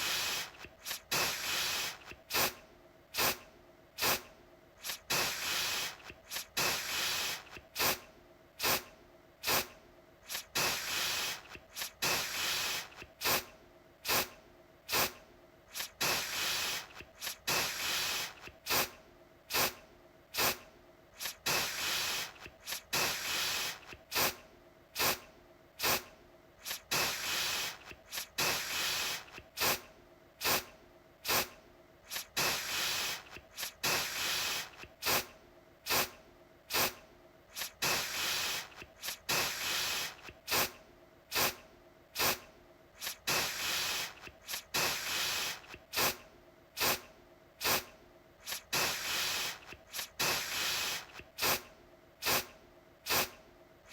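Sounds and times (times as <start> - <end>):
aerosol spray hissing: 0.0 - 2.6, 3.2 - 3.4, 4.0 - 8.0, 8.6 - 19.8, 20.4 - 20.6, 21.2 - 24.4, 25.0 - 25.2, 25.8 - 31.5, 32.1 - 35.3, 35.9 - 40.7, 41.3 - 41.6, 42.2 - 42.4, 43.0 - 46.2, 46.8 - 47.0, 47.6 - 53.9.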